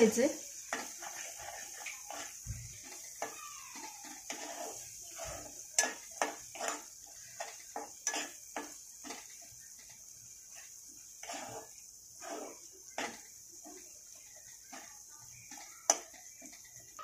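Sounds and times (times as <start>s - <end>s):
spatula scraping a metal pan: 0.3s - 17.0s.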